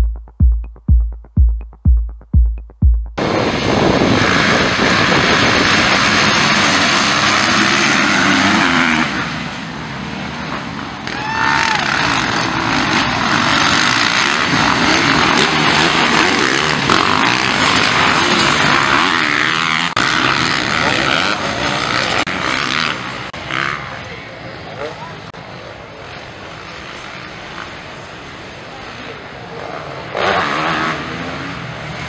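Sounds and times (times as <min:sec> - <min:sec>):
dirt bike engines revving: 0:04.0 - 0:25.3, 0:26.1 - 0:32.0.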